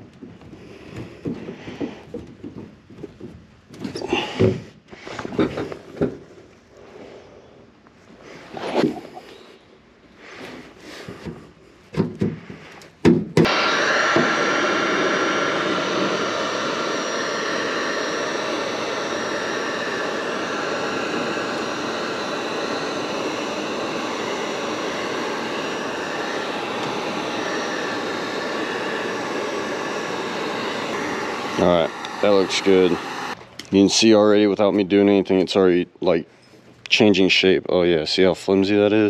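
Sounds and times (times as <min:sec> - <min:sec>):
heat gun fan blowing: 0:00.0 - 0:39.0.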